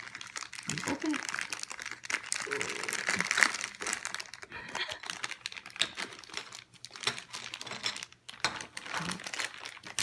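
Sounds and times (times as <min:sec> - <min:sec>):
plastic crinkling: 0:00.0 - 0:10.0.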